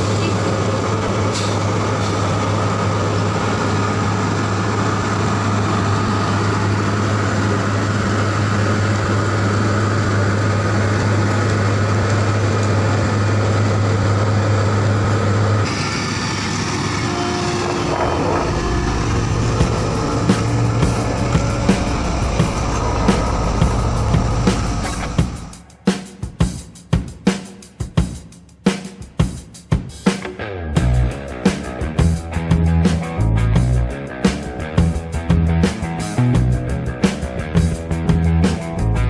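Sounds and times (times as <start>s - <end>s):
diesel engines humming: 0.0s - 25.8s, 30.4s - 39.0s
road roller rumbling: 0.0s - 25.8s, 30.4s - 39.0s.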